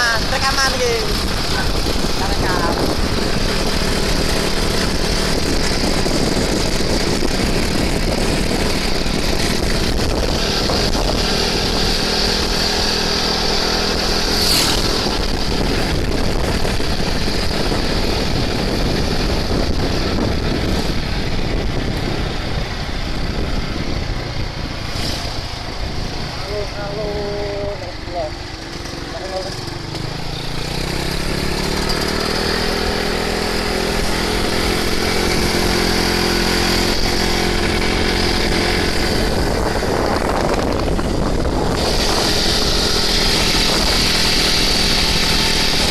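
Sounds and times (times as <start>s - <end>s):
two-stroke motorcycle running: 0.0s - 45.9s.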